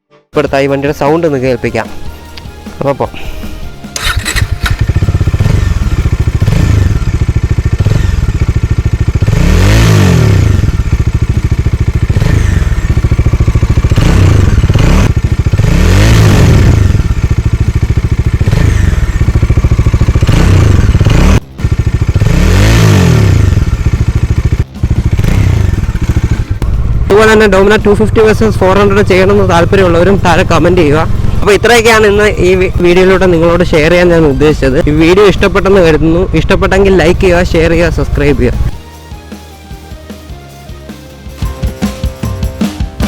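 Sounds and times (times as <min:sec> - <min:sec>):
motorcycle engine revving: 0:03.6 - 0:43.0.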